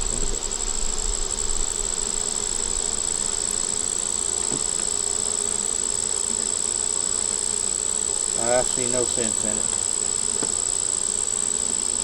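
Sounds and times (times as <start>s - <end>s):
honey bees buzzing: 0.0s - 12.0s
steady high-pitched whine: 0.0s - 12.0s.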